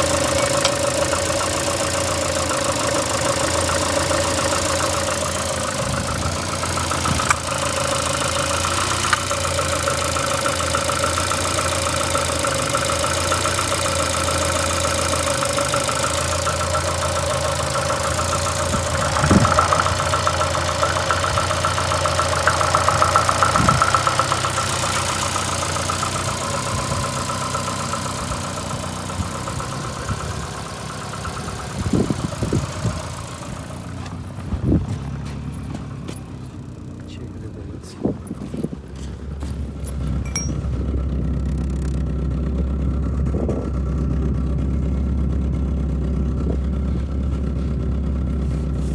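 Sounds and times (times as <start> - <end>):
engine idling unevenly with knock: 0.0 - 48.9.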